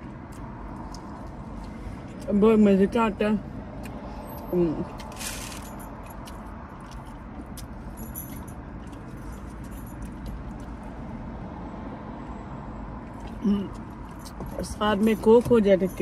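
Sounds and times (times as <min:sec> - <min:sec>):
low rumble inside car: 0:00.0 - 0:16.0.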